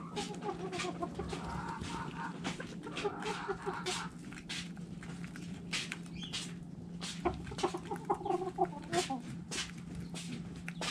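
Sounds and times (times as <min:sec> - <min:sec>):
hens clucking: 0:00.0 - 0:10.9
hens pecking at feed: 0:00.0 - 0:10.9.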